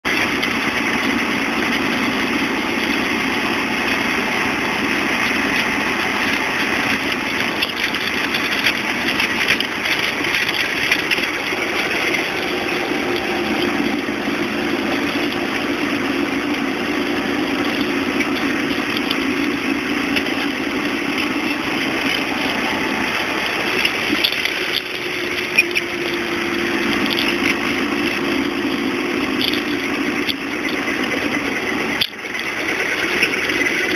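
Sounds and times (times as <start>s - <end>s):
car engine and road noise: 0.0s - 33.9s
suspension knocks and rattles: 0.0s - 33.9s.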